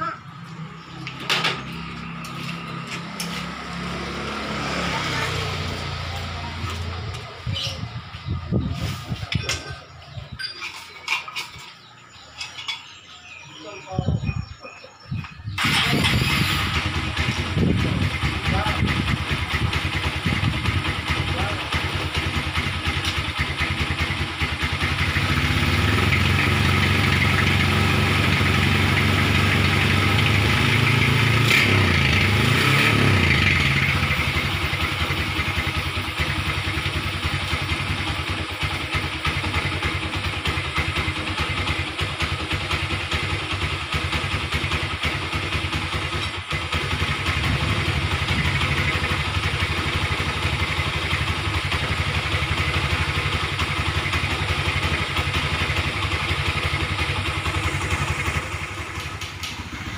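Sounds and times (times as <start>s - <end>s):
motorcycle engine running: 0.0s - 10.4s, 15.2s - 59.9s.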